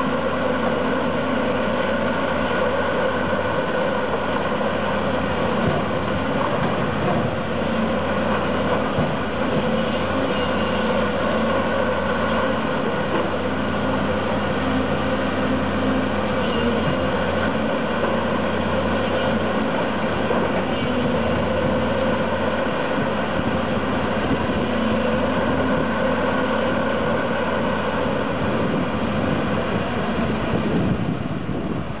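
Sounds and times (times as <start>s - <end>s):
heavy diesel machinery running: 0.0s - 32.0s.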